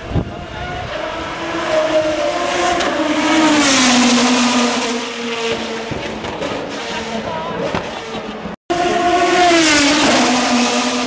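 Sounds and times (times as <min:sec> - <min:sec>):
race car passing at speed: 0:00.0 - 0:11.0.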